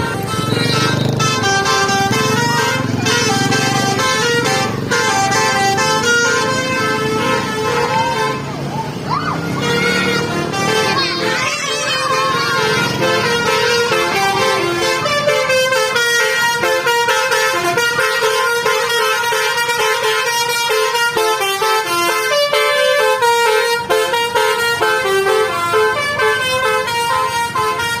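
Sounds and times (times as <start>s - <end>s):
multi-tone bus horn melody: 0.0s - 28.0s.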